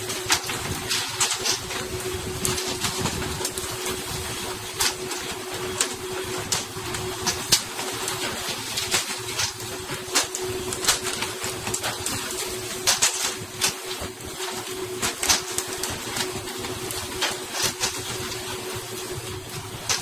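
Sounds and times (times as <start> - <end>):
motor-like hum: 0.0 - 20.0.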